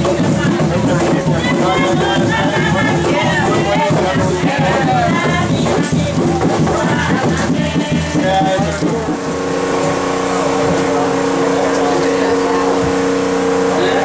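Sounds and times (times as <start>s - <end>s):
music: 0.0s - 14.0s
steady machine hum: 0.0s - 14.0s
voices: 0.0s - 14.0s.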